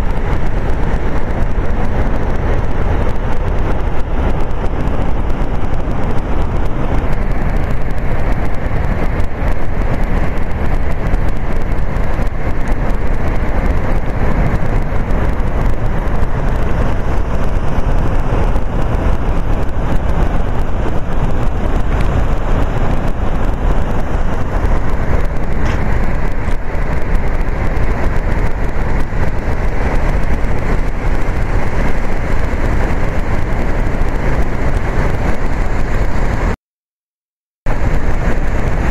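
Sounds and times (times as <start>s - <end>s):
waterfall roaring: 0.0s - 36.6s.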